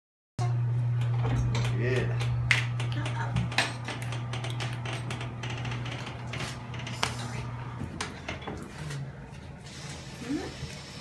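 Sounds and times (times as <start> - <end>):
dental chair motor humming: 0.4 - 11.0.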